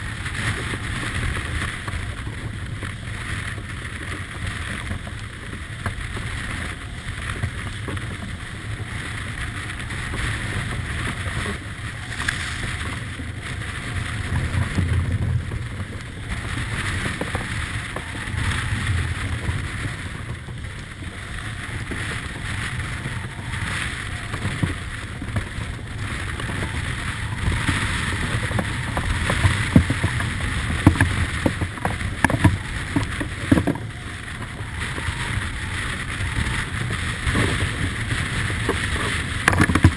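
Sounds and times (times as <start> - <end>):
water rushing along hull: 0.0 - 39.9
wind buffeting microphone: 0.0 - 39.9.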